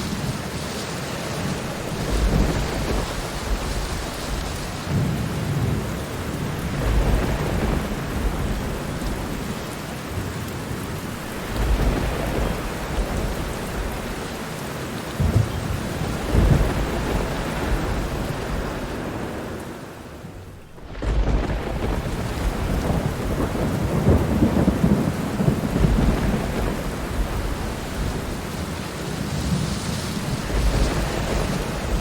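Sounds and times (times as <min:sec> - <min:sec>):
low thunder rumbling: 0:00.0 - 0:32.0
steady rainfall: 0:00.0 - 0:32.0.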